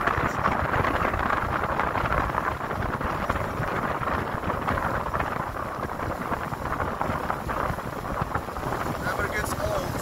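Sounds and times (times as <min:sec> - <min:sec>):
water rushing past hull: 0:00.0 - 0:10.0
wind buffeting microphone: 0:00.0 - 0:10.0.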